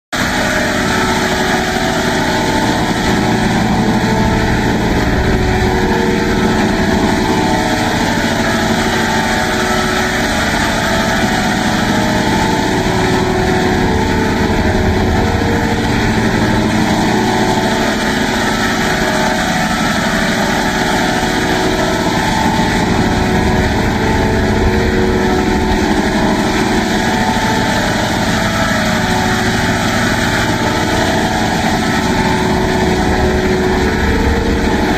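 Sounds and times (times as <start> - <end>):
loud buzzing drone: 0.2 - 34.9.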